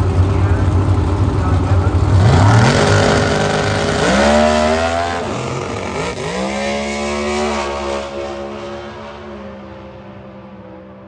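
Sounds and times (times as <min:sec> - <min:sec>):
race cars accelerating: 0:00.0 - 0:11.0.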